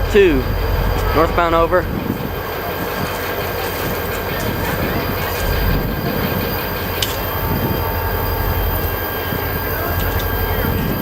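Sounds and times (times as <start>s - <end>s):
diesel train rumble: 0.0s - 11.0s.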